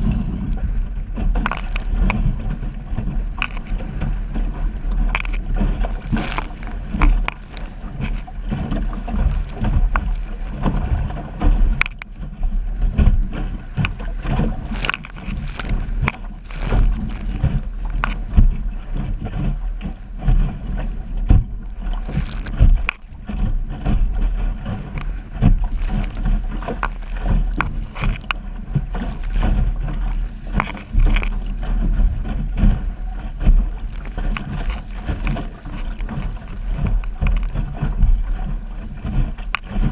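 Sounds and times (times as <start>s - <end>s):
waves slapping hull: 0.0s - 39.9s
wind and rushing water: 0.0s - 39.9s.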